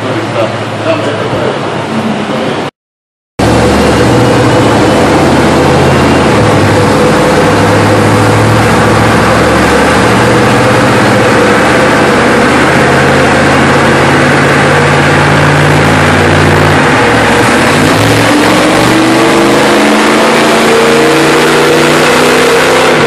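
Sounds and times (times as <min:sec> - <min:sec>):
truck engine running on dynamometer: 0:03.4 - 0:23.0.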